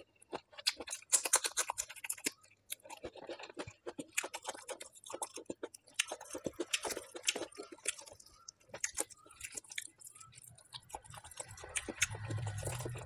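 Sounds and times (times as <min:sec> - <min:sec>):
chewing with wet crunches: 0:00.0 - 0:13.0.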